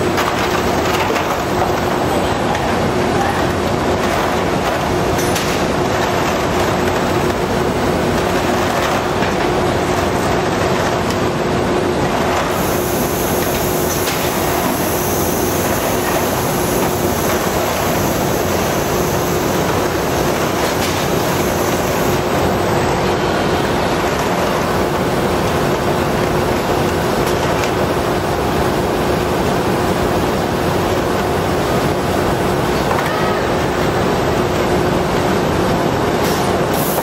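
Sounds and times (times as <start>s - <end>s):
conveyors and robot arms running: 0.0s - 37.0s.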